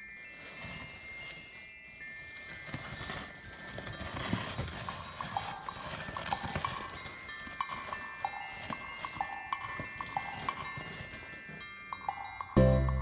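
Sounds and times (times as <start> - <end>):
faint chime-like music: 0.0 - 13.0.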